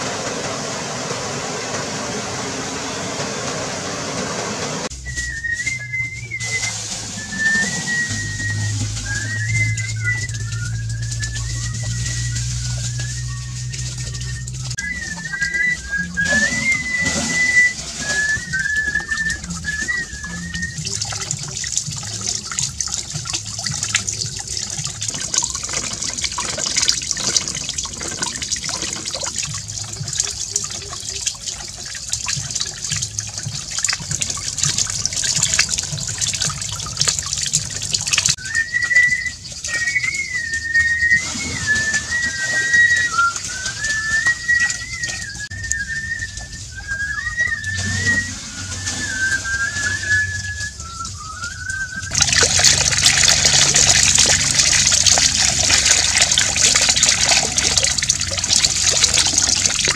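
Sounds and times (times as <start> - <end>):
water splashing over water wheel: 0.0 - 59.9
whistled tune: 0.0 - 59.9.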